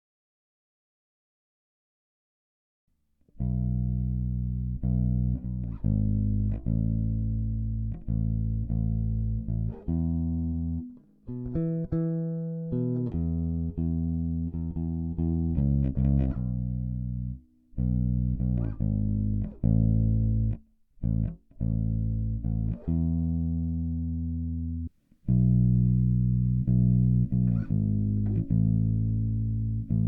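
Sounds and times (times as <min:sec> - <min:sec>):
electric bass plucked notes: 0:03.4 - 0:30.0.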